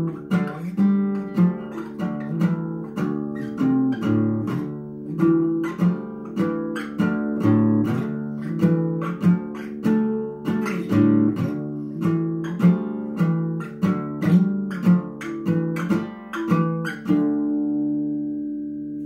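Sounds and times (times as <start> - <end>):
acoustic guitar riff: 0.0 - 19.0.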